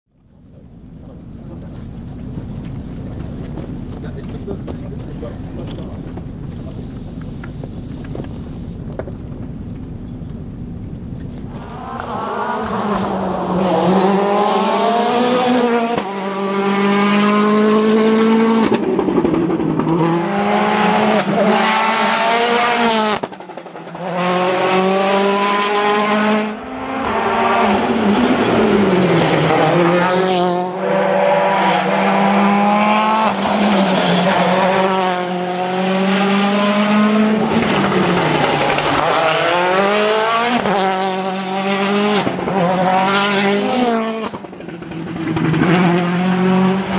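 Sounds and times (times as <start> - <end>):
rally car engine at full throttle: 0.2 - 46.9.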